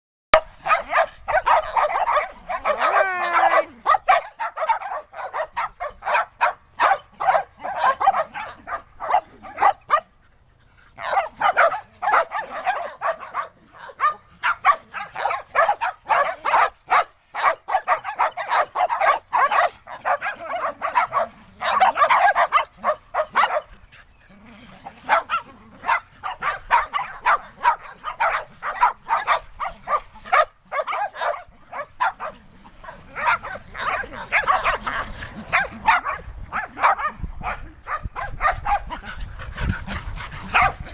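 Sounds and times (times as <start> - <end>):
dogs barking: 0.4 - 10.2, 10.9 - 23.8, 24.8 - 40.9.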